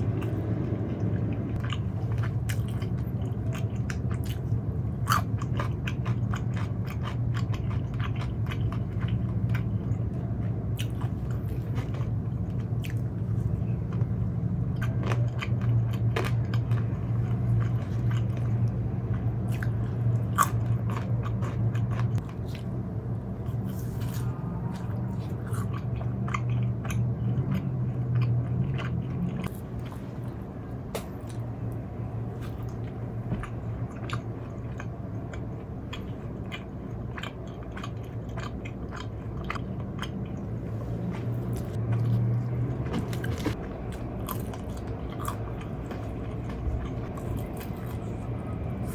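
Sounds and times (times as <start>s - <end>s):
crunchy chewing of fried food: 0.0s - 48.9s
steady low hum: 0.0s - 48.9s.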